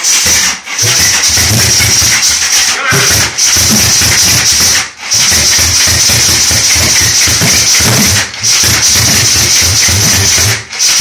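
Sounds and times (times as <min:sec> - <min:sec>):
starter motor cranking engine: 0:00.0 - 0:11.0.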